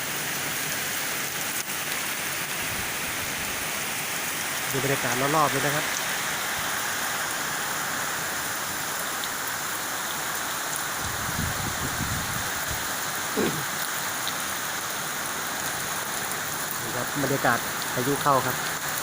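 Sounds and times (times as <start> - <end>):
heavy rain pouring: 0.0 - 19.0
wind: 0.0 - 19.0.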